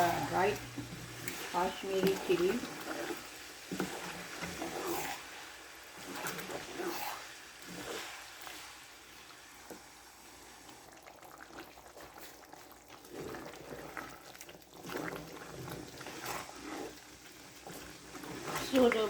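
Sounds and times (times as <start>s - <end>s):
liquid bubbling in a pan: 0.0s - 19.0s.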